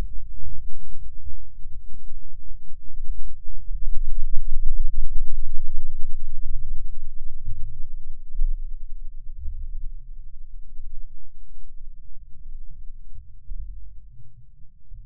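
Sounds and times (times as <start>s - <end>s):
slowed soundtrack low rumble: 0.0s - 15.0s.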